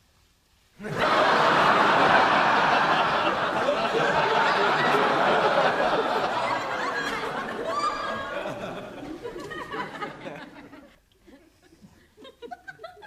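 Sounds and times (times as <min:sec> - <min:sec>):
studio audience laughter: 0:00.8 - 0:11.6.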